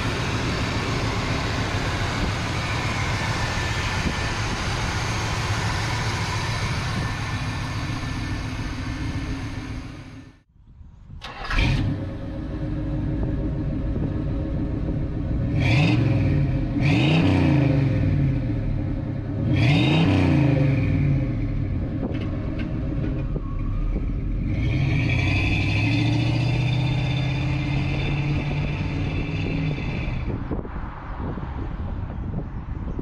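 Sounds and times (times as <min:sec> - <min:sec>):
car engine revving: 0:00.0 - 0:10.4, 0:11.2 - 0:30.6
car engine droning: 0:00.0 - 0:10.5, 0:11.2 - 0:32.5.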